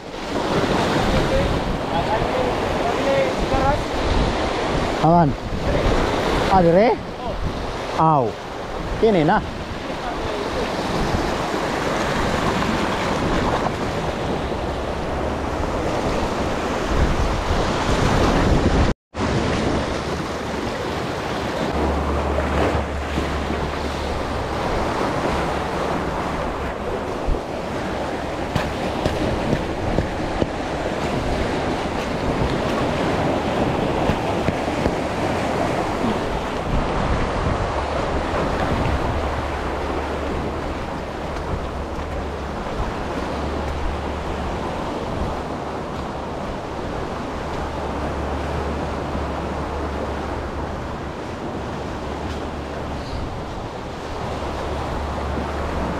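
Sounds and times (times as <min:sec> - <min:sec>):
sea water washing: 0:00.0 - 0:55.9
wind buffeting microphone: 0:00.0 - 0:55.9.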